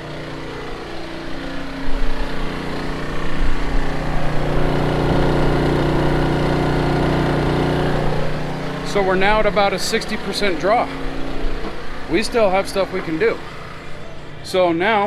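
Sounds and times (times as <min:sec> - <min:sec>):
generator humming: 0:00.0 - 0:15.0.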